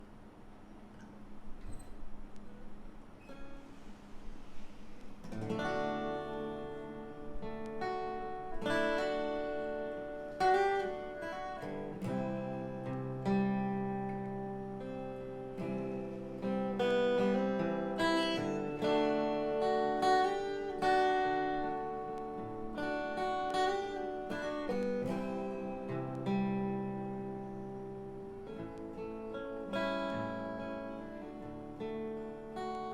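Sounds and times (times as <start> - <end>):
acoustic guitar playing: 0.0 - 32.9.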